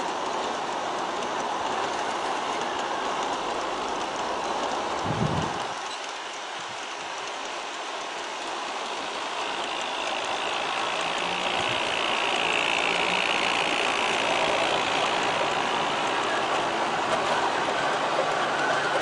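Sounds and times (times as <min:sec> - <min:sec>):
metal wheels rolling on rail: 0:00.0 - 0:19.0
model train motors whining: 0:00.0 - 0:19.0.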